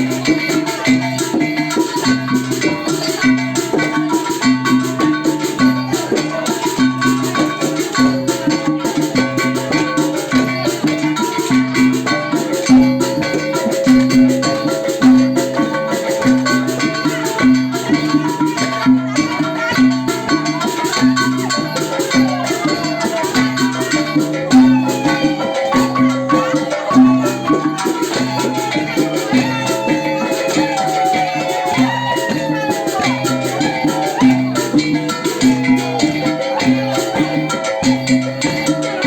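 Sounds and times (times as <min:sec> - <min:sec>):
low percussion beat: 0:00.0 - 0:39.0
ringing pitched notes: 0:00.0 - 0:39.0.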